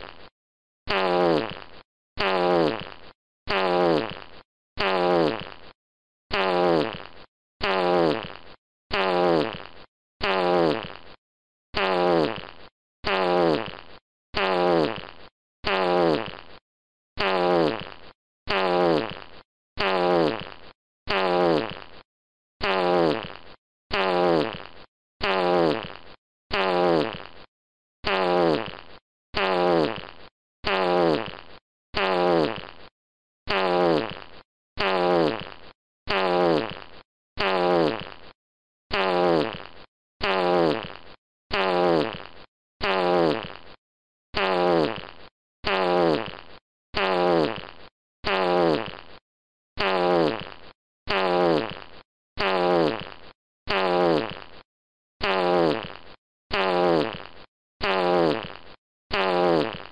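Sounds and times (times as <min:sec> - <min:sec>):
fart sound effect: 0:00.0 - 0:00.3, 0:00.9 - 0:16.6, 0:17.2 - 0:32.9, 0:33.5 - 0:43.8, 0:44.4 - 0:49.2, 0:49.8 - 0:59.9.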